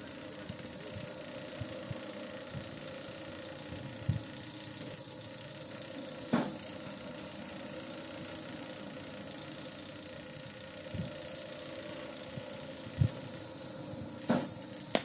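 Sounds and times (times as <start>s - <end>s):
bowling machine humming: 0.0s - 15.0s.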